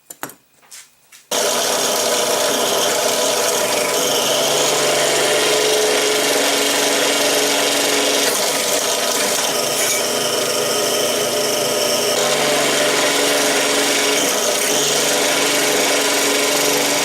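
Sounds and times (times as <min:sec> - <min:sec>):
drill press running: 0:01.3 - 0:17.0.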